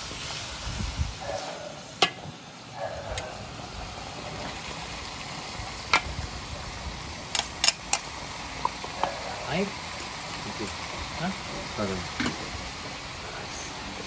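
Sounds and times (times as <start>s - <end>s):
steady cooking hiss: 0.0s - 14.0s.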